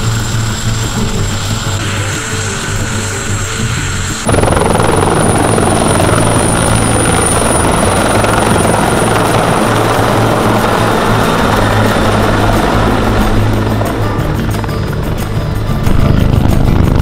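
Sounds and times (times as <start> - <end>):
helicopter rotor beating: 0.0 - 17.0
high turbine whine: 0.0 - 17.0.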